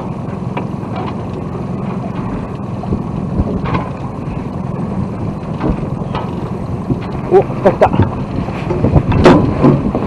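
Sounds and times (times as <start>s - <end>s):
steady low hum: 0.0s - 10.0s
water noise: 0.0s - 10.0s
wind: 0.0s - 10.0s.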